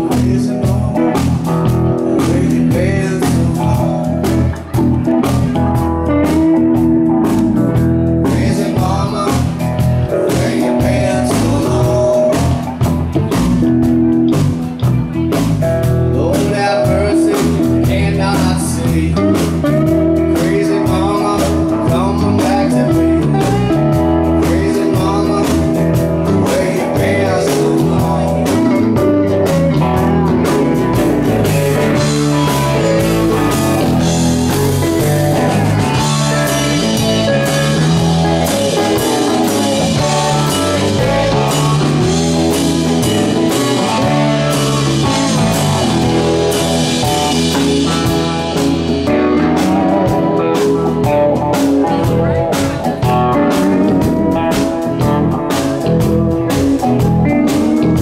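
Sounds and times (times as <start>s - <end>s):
live blues-rock band: 0.0s - 58.0s.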